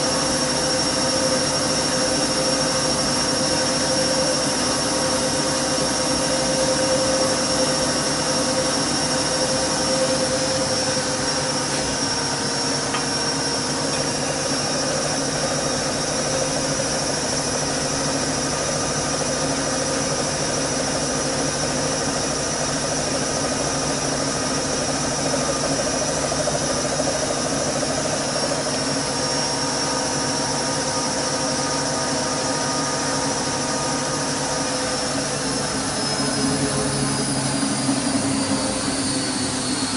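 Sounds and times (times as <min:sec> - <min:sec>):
washing machine spinning whine: 0:00.0 - 0:39.9.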